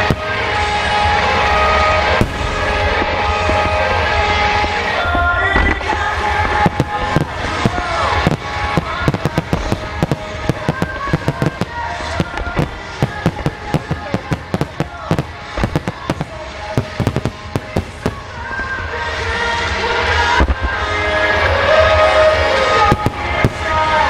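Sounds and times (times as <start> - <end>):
fireworks bursting: 0.0 - 24.0
music: 0.0 - 24.0.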